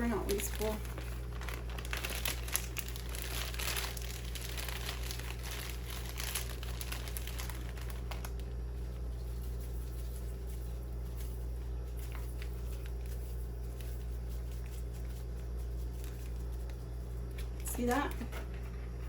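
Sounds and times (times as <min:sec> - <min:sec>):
plastic bag crinkling: 0:00.0 - 0:18.2.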